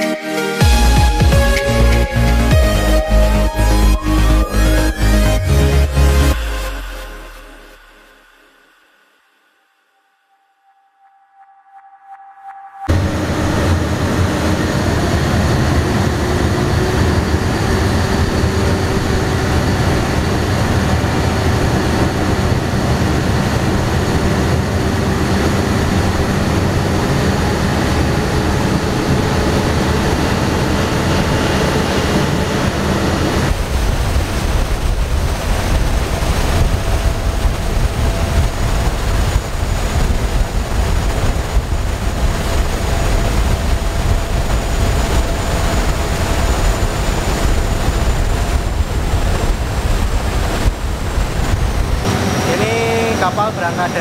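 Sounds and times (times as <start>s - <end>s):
ferry engine: 0.0s - 9.5s, 11.4s - 54.0s
deep heavy rumble with hum: 0.6s - 8.5s, 12.9s - 54.0s.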